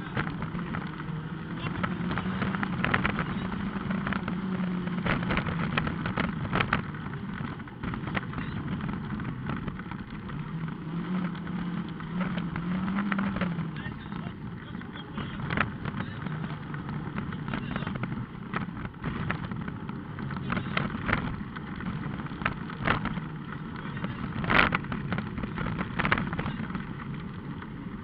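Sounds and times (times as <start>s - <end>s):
rally car engine under load: 0.0s - 28.0s.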